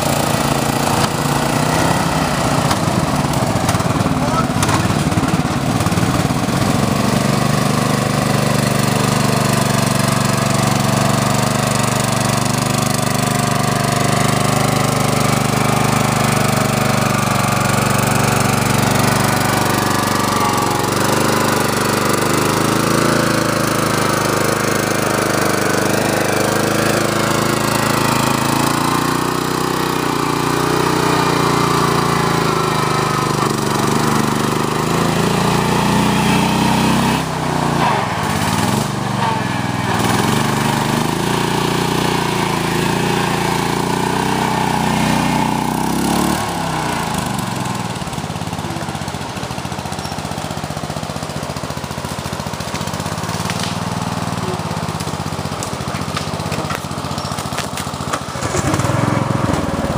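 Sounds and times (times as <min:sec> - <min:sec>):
small lawn mower engine running: 0:00.0 - 0:59.9
water churning around wheels: 0:00.0 - 0:59.9.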